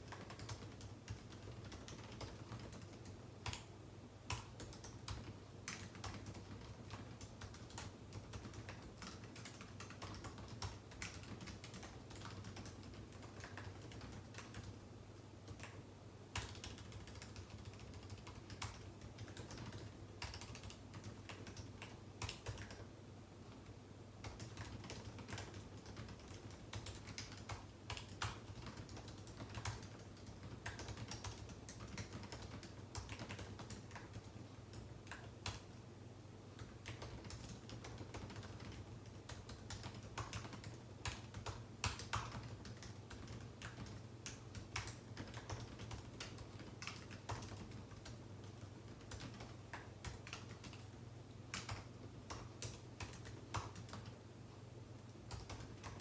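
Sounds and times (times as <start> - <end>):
computer keyboard typing: 0.0 - 14.8, 15.4 - 22.9, 23.5 - 35.8, 36.5 - 54.2, 55.2 - 56.0
faint low hum: 0.0 - 56.0.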